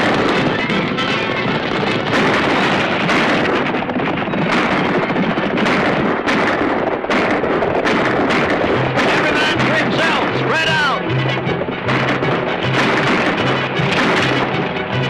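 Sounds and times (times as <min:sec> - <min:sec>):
galloping hooves: 0:00.0 - 0:15.0
sharp cracks: 0:00.0 - 0:15.0
stagecoach wheels rattling: 0:00.0 - 0:15.0.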